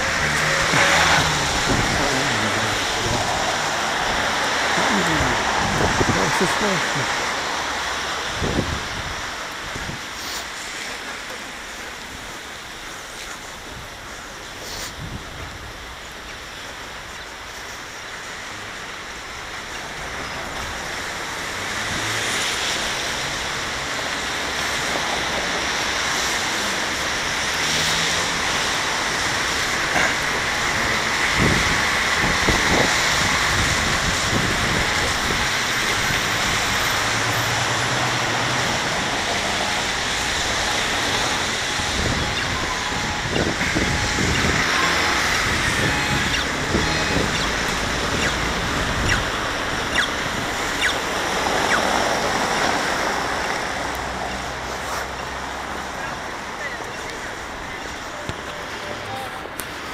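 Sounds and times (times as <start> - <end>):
tyres hissing on wet road: 0.0 - 59.9.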